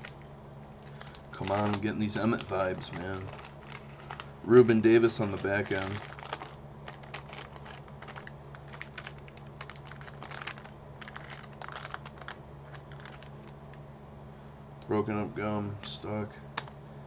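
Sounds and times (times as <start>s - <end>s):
wax paper wrapper crinkling: 0.0s - 13.8s
low hum: 0.0s - 17.0s.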